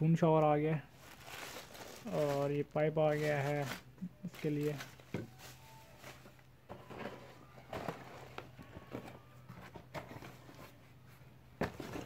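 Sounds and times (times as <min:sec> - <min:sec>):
plastic wrapping rustling: 0:00.9 - 0:10.8.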